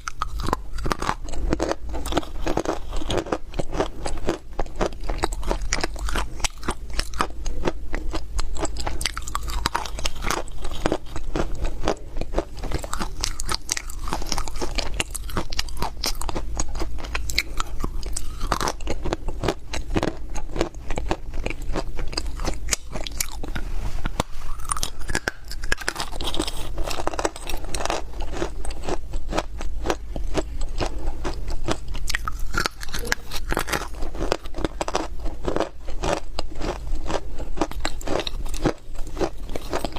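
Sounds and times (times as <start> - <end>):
chewing crunchy clay: 0.0 - 39.9.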